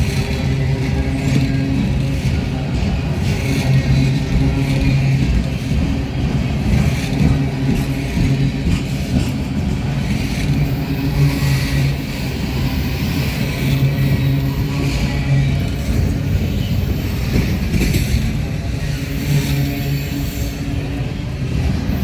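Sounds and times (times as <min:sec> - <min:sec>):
freight train rumbling past: 0:00.0 - 0:22.0
low engine drone: 0:00.0 - 0:22.0.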